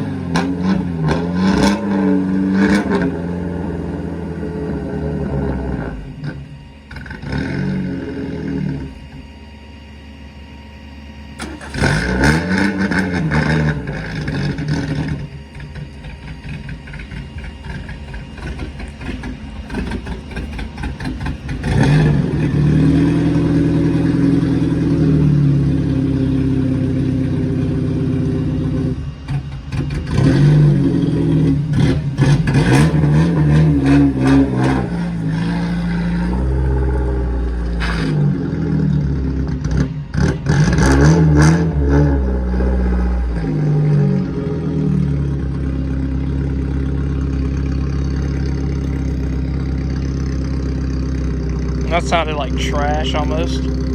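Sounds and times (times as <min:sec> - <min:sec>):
car engine revving: 0:00.0 - 0:09.3, 0:11.4 - 0:53.9.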